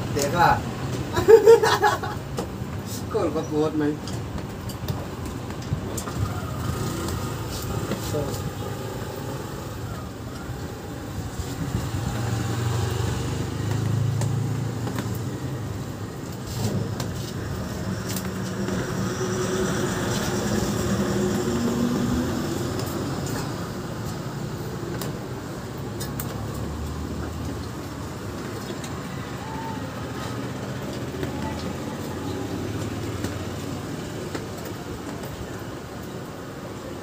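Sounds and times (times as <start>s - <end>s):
passing motor vehicles: 0.0s - 37.0s.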